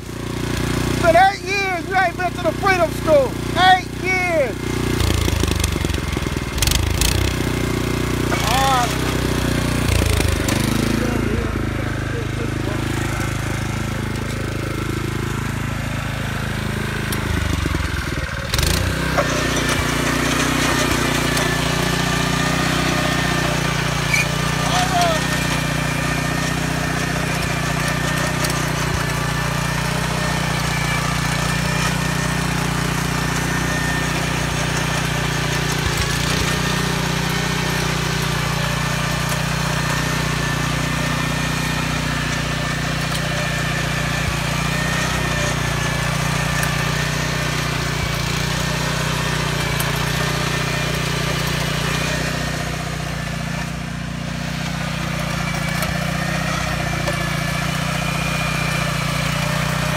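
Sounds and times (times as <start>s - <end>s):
tiller engine running: 0.0s - 59.9s.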